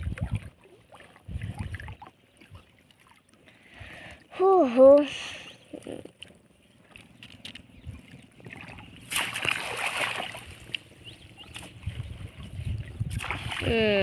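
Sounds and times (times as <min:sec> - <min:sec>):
water splashing and dripping: 0:00.0 - 0:04.2, 0:05.7 - 0:14.0.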